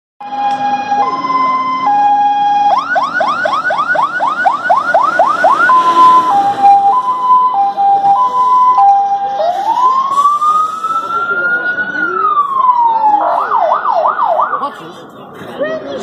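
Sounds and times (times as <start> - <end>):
fire engine siren: 0.2 - 14.6.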